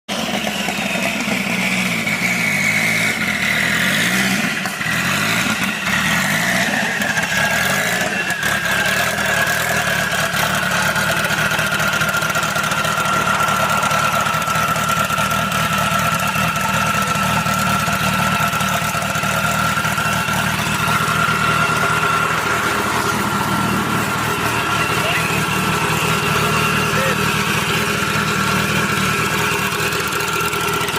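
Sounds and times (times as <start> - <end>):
car engine running: 0.1 - 30.9
high whine: 0.5 - 30.9.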